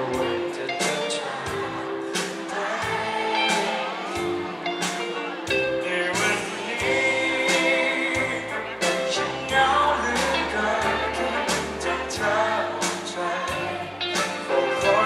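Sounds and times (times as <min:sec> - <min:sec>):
man singing: 0:00.0 - 0:03.0, 0:05.7 - 0:15.0
bass guitar: 0:00.0 - 0:15.0
drums: 0:00.0 - 0:15.0
electric guitar: 0:00.0 - 0:15.0.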